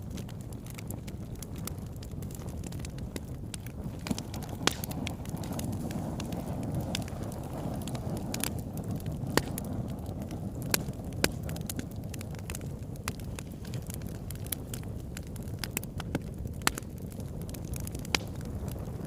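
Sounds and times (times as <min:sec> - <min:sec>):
fire crackling: 0:00.0 - 0:19.0
fire popping: 0:00.0 - 0:19.0.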